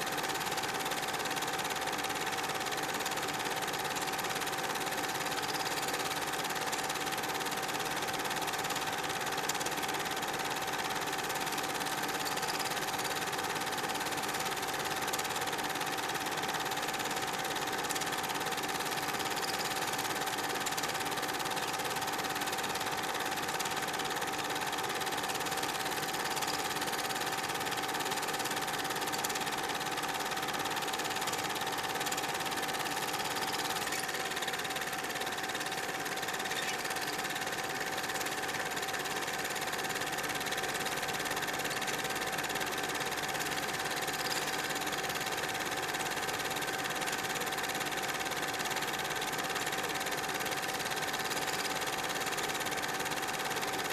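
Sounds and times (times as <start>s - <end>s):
film projector whirring: 0.0s - 53.9s.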